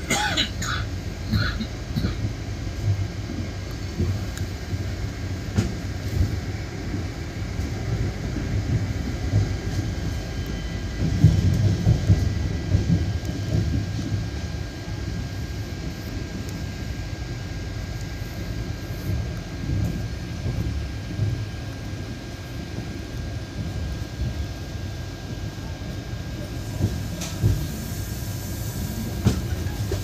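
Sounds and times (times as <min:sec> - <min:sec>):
train coach rumbling: 0:00.0 - 0:30.0.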